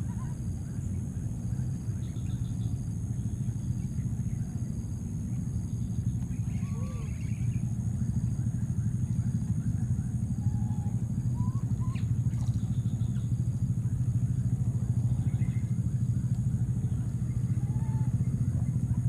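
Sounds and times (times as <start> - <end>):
small engine rumbling: 0.0 - 19.0.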